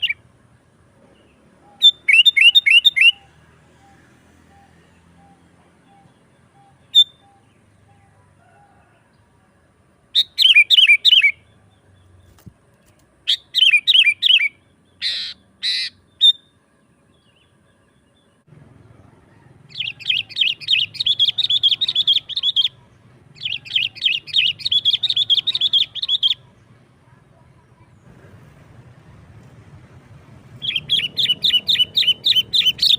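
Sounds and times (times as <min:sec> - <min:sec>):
bulbul singing: 0:00.0 - 0:08.2, 0:10.1 - 0:12.6, 0:13.2 - 0:28.2, 0:30.0 - 0:32.9.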